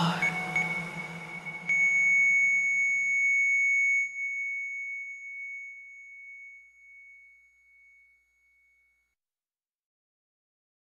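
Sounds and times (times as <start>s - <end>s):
high ringing chime tone: 0.0s - 9.2s.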